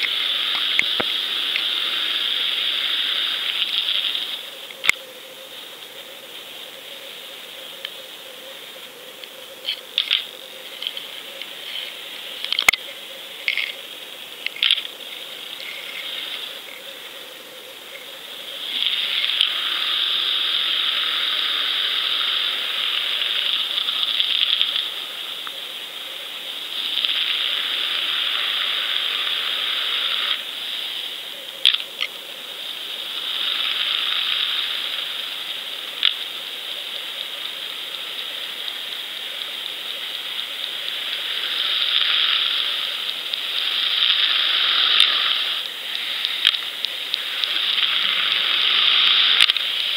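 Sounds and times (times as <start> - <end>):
muffled underwater hiss: 0.0 - 49.9.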